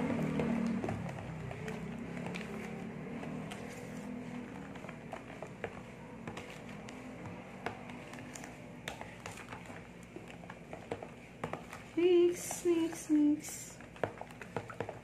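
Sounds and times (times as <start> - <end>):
low background hum: 0.0 - 15.0
metal spoon stirring in plastic tub: 0.0 - 15.0.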